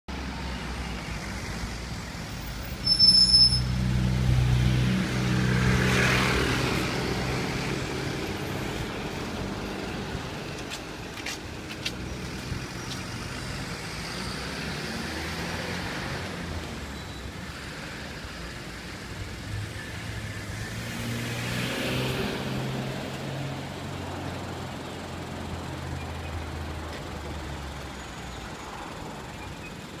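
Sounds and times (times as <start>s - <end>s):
vehicles passing: 0.1s - 30.0s.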